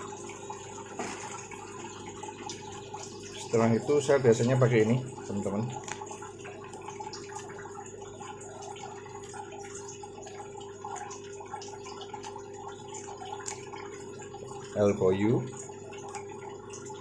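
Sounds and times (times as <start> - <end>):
electric pump hum: 0.0 - 17.0
water trickling and dripping: 0.0 - 17.0.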